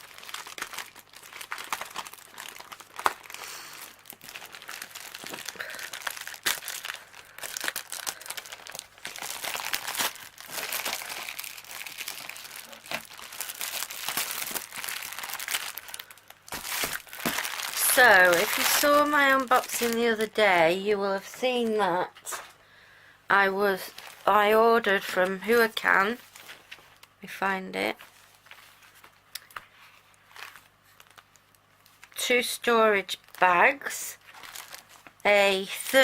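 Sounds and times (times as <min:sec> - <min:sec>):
plastic packaging crinkling: 0:00.0 - 0:20.6, 0:23.7 - 0:27.2, 0:28.0 - 0:32.3, 0:33.0 - 0:36.0.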